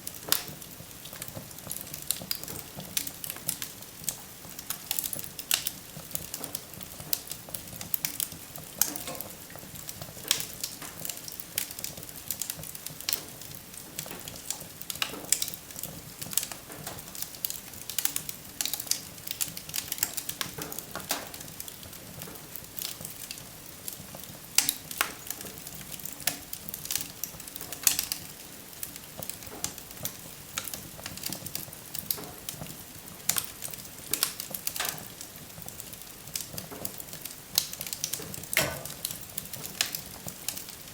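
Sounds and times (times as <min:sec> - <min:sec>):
soft hiss of flames: 0:00.0 - 0:40.9
wood fire crackling and popping: 0:00.0 - 0:40.9.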